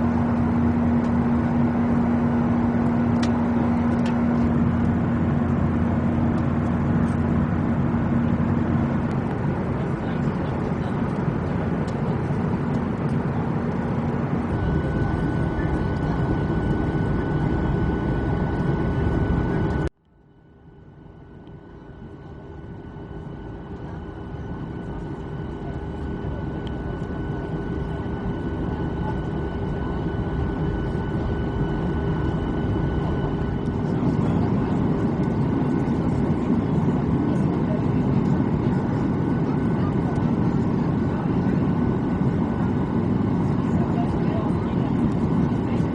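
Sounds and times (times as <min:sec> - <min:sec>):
jet engines droning: 0:00.0 - 0:19.9, 0:20.8 - 0:45.9
steady hum: 0:00.0 - 0:45.9.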